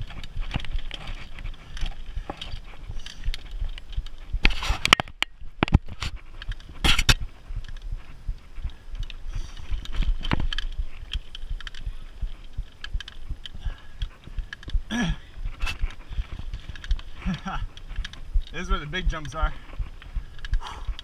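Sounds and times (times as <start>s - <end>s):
bike rattling and knocking: 0.0s - 21.0s
low rumble of rolling bike: 0.0s - 21.0s.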